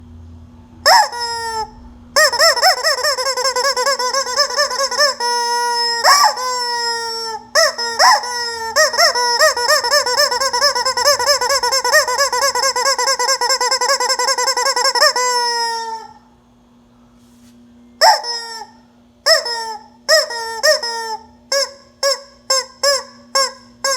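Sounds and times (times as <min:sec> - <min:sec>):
rubber chicken toy squawking: 0:00.9 - 0:16.2, 0:18.0 - 0:23.9.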